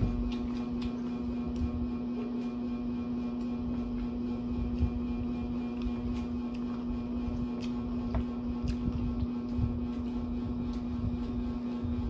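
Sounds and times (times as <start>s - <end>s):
chewing raw greens: 0.0s - 12.0s
steady low hum: 0.0s - 12.0s.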